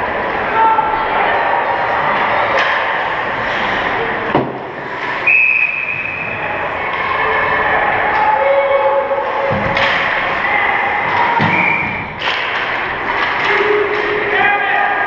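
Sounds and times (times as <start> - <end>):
voices in the rink: 0.0 - 15.0.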